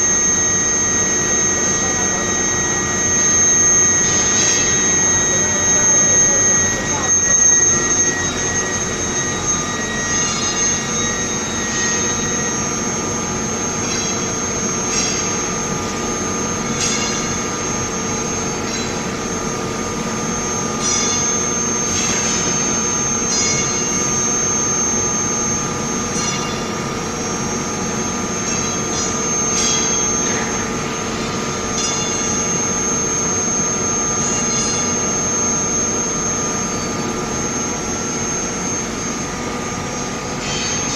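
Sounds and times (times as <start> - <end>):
machine hum with high whine: 0.0 - 40.9.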